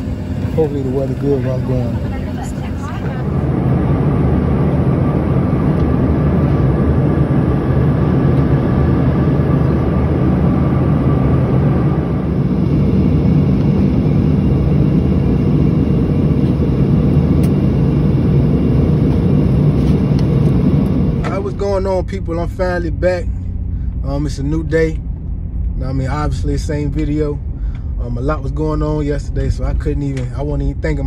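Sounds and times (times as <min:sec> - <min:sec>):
airliner cabin engine noise: 0:00.0 - 0:31.0
faint steady whine: 0:00.0 - 0:31.0.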